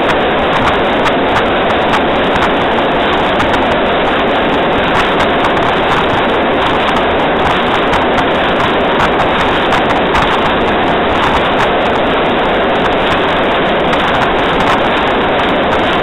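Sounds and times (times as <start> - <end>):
train rolling on track: 0.0 - 16.0
wind across microphone: 0.0 - 16.0.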